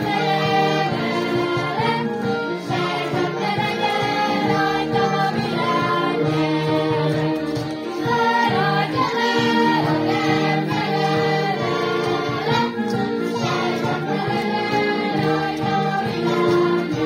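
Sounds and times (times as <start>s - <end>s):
group singing folk song: 0.0s - 17.0s.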